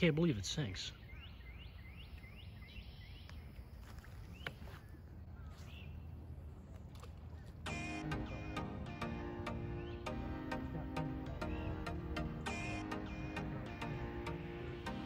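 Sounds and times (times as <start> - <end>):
bird chirping: 0.0 - 6.6, 7.3 - 15.0.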